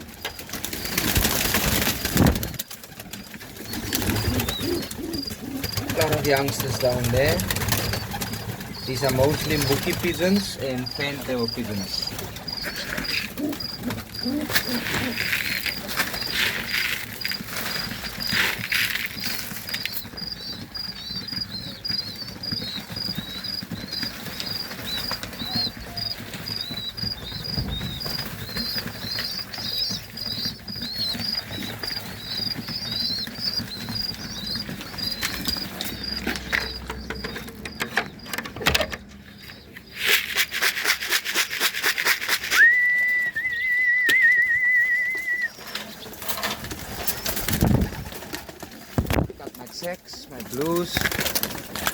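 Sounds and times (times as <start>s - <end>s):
pigeon wings flapping: 0.0s - 37.7s, 40.0s - 51.9s
feed pattering: 0.1s - 51.9s.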